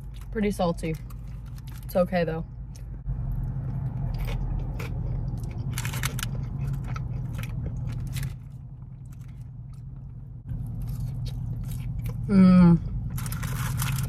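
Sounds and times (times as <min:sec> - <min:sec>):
chewing and crunching fries: 0:00.0 - 0:14.0
steady low hum: 0:00.0 - 0:14.0.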